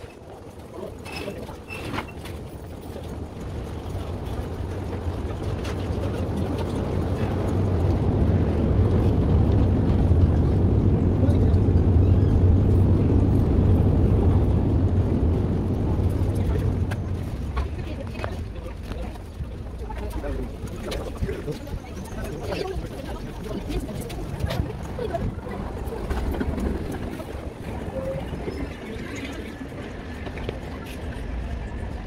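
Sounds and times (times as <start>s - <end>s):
low vehicle rumble: 0.4s - 32.0s.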